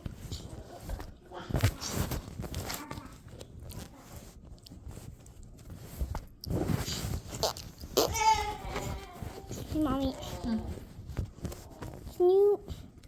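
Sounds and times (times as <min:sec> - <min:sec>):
plastic dolls rustling and clicking: 0:00.0 - 0:13.0.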